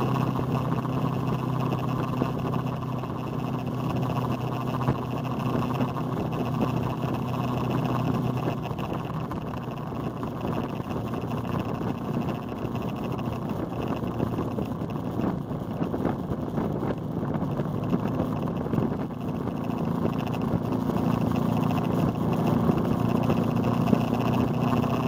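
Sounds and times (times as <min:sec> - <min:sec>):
motorcycle engine cruising: 0:00.0 - 0:25.0
road noise: 0:00.0 - 0:25.0.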